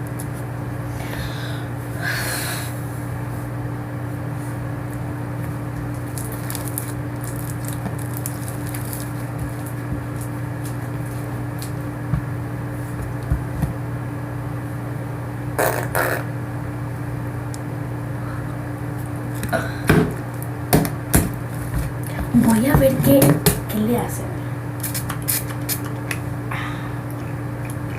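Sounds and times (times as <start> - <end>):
electrical hum: 0.0 - 27.9.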